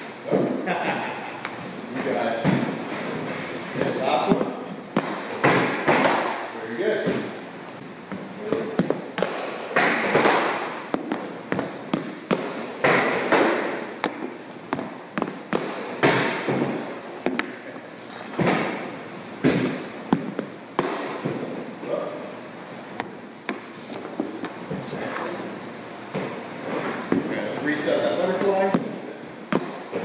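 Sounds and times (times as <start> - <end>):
pucks clacking off pads and boards: 1.4 - 21.6, 22.9 - 25.4, 28.2 - 30.0.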